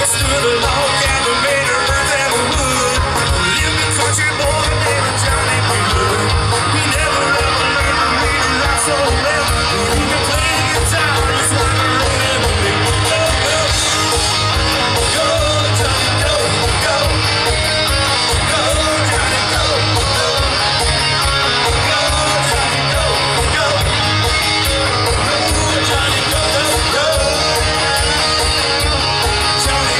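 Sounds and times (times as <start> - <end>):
bass guitar: 0.0 - 29.9
electric guitar: 0.0 - 29.9
fast drum beat: 0.0 - 29.9
person singing: 0.0 - 29.9.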